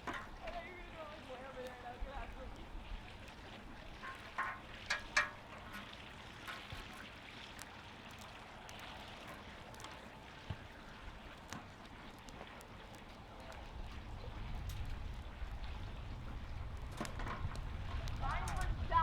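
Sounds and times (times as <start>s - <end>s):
campfire hissing and crackling: 0.0s - 19.0s.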